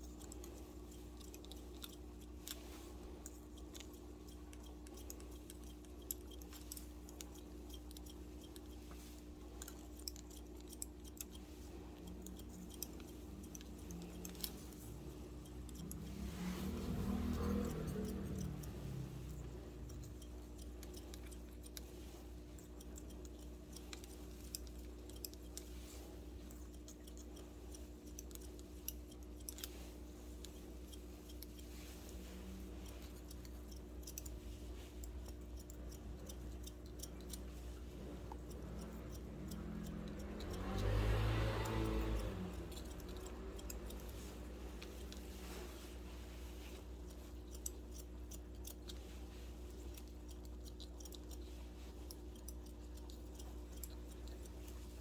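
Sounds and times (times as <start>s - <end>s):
shears snipping hair: 0.0s - 55.0s
steady low hum: 0.0s - 55.0s.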